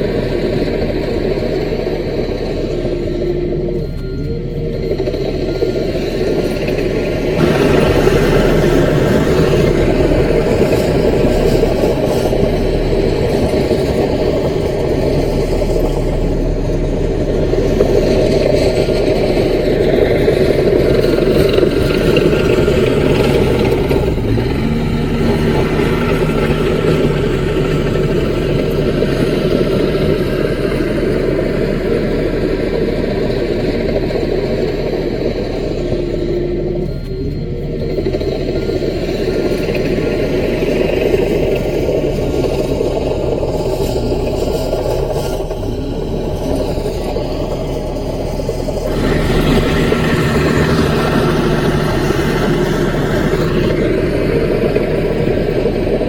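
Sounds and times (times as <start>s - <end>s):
diesel engine running: 0.0s - 56.0s
steady tone: 0.0s - 56.0s.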